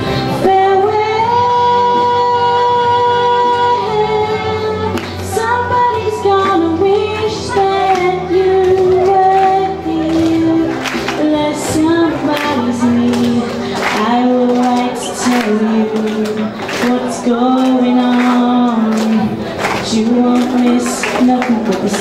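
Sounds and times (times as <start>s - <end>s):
instrumental backing music: 0.0s - 22.0s
woman singing: 0.1s - 22.0s.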